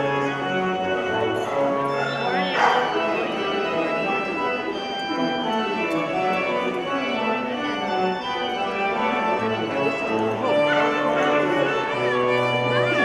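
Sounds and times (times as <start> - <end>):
organ music: 0.0 - 13.0.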